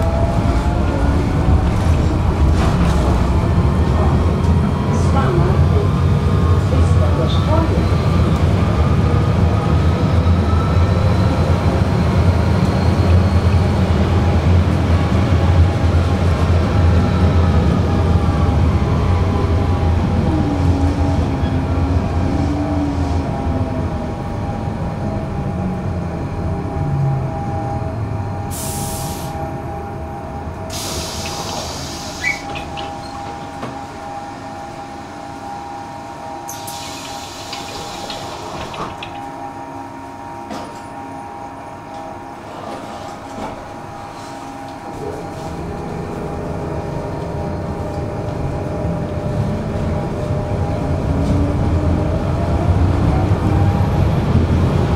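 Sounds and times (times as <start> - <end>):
tram motor whining: 0.0 - 54.9.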